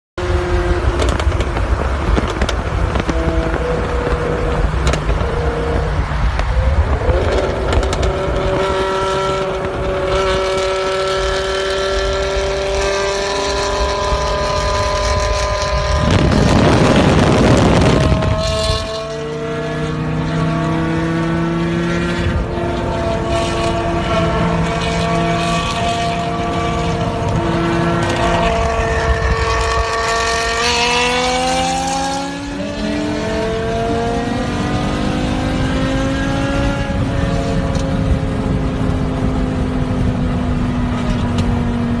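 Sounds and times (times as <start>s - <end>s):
car exhaust revving: 0.5s - 42.0s.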